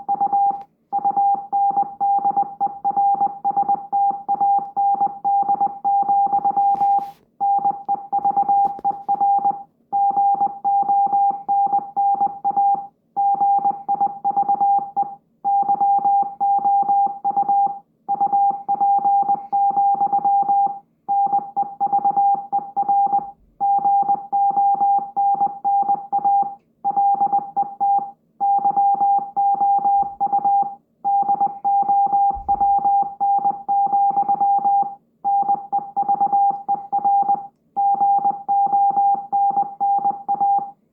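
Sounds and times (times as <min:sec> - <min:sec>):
morse code beeping: 0:00.0 - 0:40.7.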